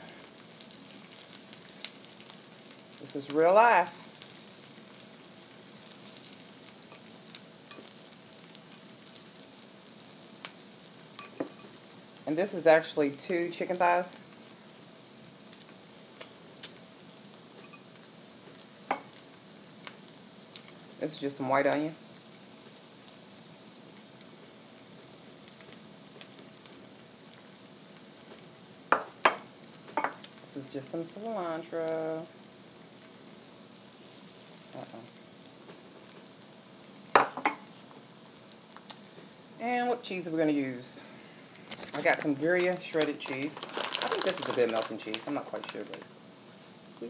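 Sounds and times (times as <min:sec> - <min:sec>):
tortillas sizzling on griddle: 0:00.0 - 0:47.0.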